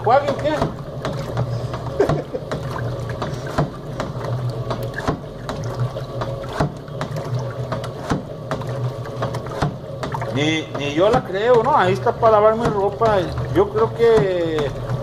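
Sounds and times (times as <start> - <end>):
knocks and splashes: 0.0 - 15.0
low motor hum: 0.0 - 15.0
water sloshing in a drum: 0.0 - 15.0.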